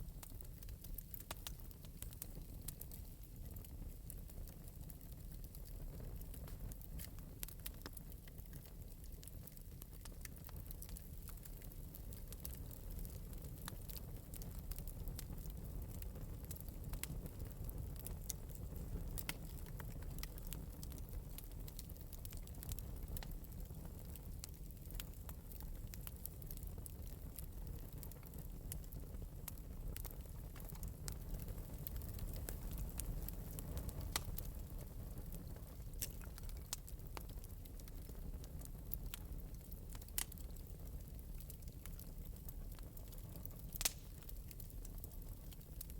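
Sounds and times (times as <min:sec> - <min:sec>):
fire crackling and popping: 0:00.0 - 0:45.9
fire rumbling: 0:00.0 - 0:45.9.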